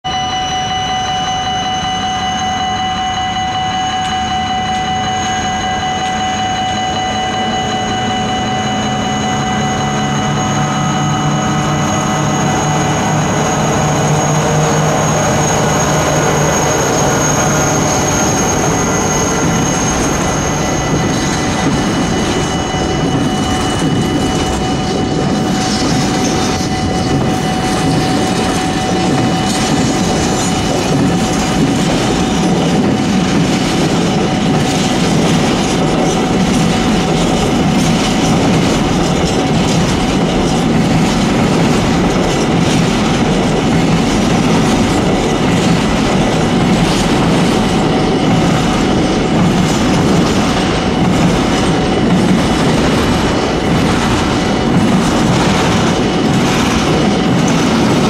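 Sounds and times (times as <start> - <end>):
level crossing bell ringing: 0.0 - 49.5
diesel locomotive engine: 0.0 - 58.0
train wagons rumbling and clattering: 0.0 - 58.0.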